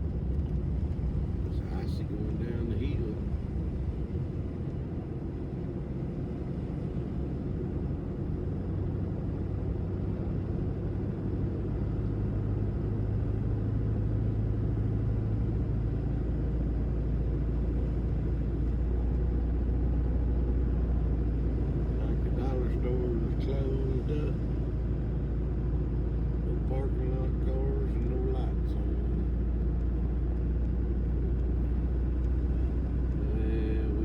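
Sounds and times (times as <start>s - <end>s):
pickup truck engine and road drone: 0.0s - 34.0s.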